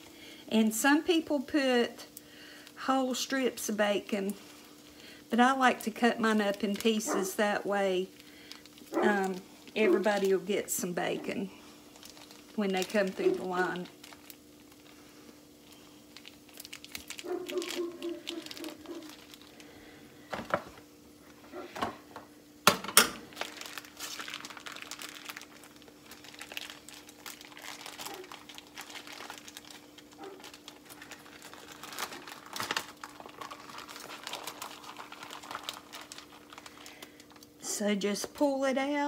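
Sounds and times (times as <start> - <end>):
plastic packaging crinkling: 0.7 - 21.4, 23.2 - 37.6.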